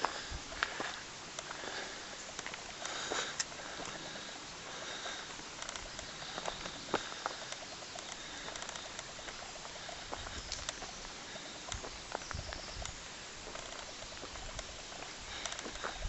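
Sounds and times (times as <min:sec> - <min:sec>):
footsteps crunching on track: 0:00.0 - 0:16.0
outdoor hiss: 0:00.0 - 0:16.0.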